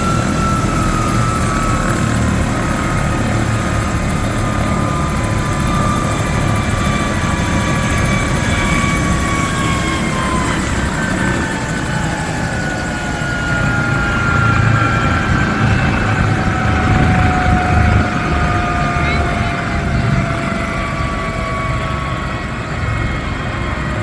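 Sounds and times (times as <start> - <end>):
helicopter rotor thudding: 0.0 - 21.6
turbine whine: 0.0 - 24.0.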